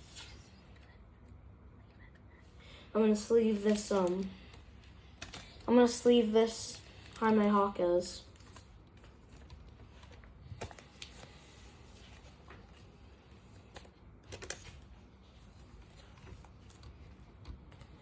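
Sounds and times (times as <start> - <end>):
card rustling: 3.3 - 18.0.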